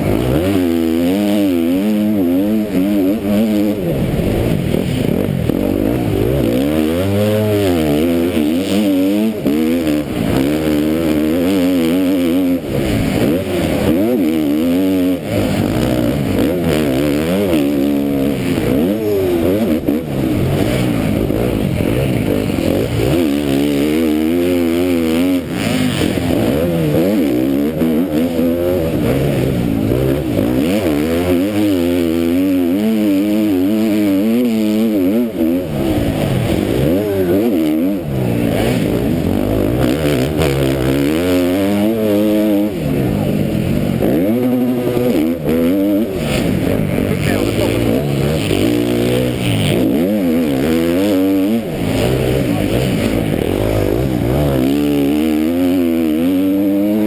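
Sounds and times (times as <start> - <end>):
motocross bike engine racing: 0.0 - 57.0.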